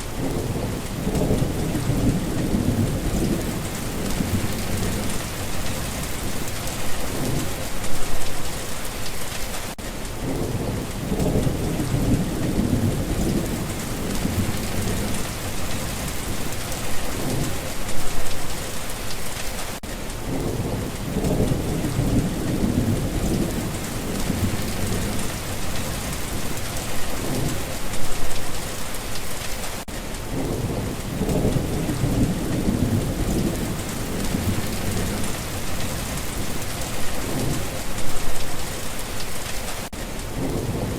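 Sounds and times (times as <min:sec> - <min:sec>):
rolling thunder rumbles: 0:00.0 - 0:08.6, 0:10.2 - 0:18.5, 0:20.2 - 0:28.7, 0:29.7 - 0:40.9
steady rain: 0:00.0 - 0:40.9.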